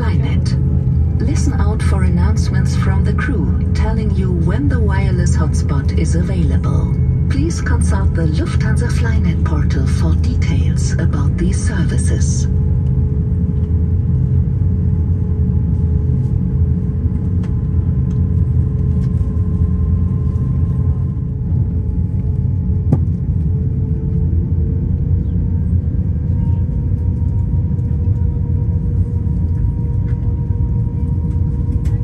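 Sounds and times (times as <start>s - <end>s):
aircraft cabin rumble: 0.0s - 32.0s.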